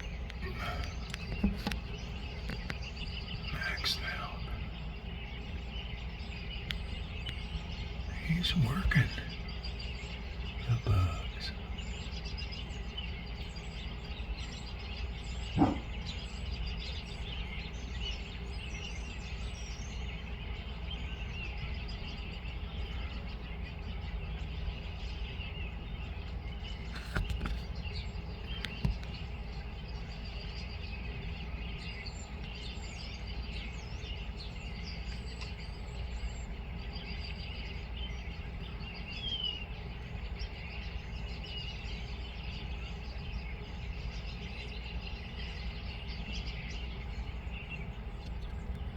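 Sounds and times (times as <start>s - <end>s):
birds chirping: 0.0s - 48.9s
low background rumble: 0.0s - 48.9s.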